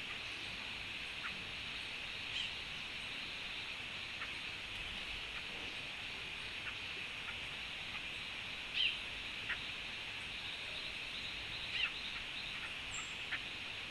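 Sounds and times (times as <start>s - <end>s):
high-pitched outdoor hiss: 0.0s - 13.9s.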